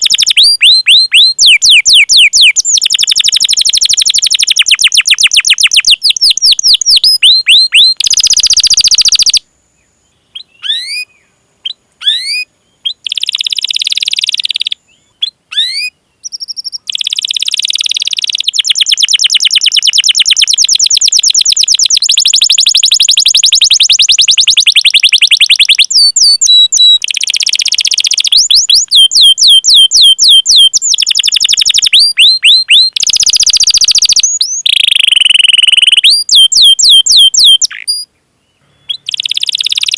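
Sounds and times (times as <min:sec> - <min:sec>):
canary singing: 0:00.0 - 0:09.4, 0:10.2 - 0:38.1, 0:38.7 - 0:39.9.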